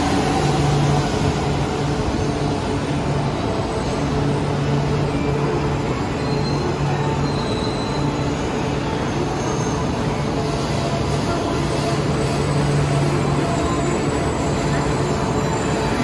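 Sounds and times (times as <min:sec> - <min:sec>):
train rolling: 0:00.0 - 0:16.0.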